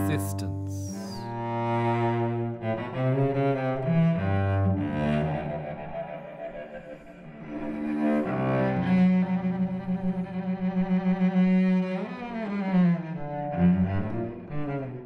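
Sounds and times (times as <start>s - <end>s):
bowed cello: 0.0s - 15.0s.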